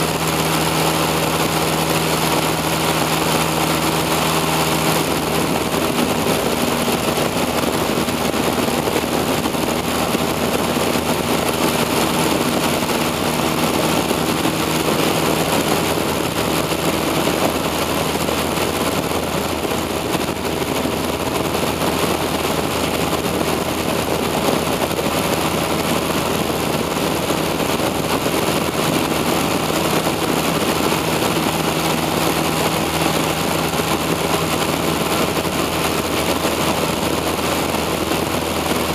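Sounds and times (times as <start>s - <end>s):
airplane engine droning: 0.0s - 38.9s.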